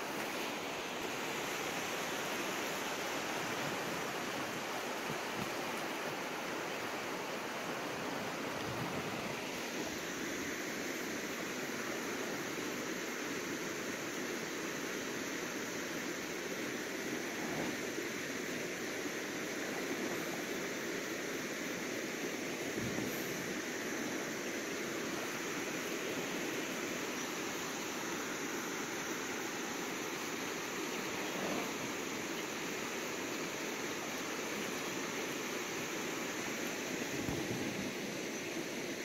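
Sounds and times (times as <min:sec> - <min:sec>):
river water rushing around legs: 0:00.0 - 0:39.0.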